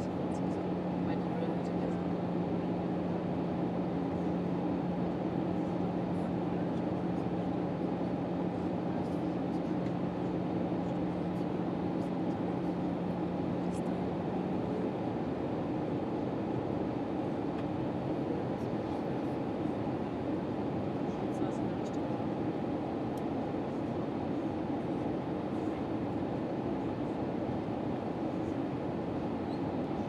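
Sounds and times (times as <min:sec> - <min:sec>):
aircraft cabin engine noise: 0:00.0 - 0:30.0.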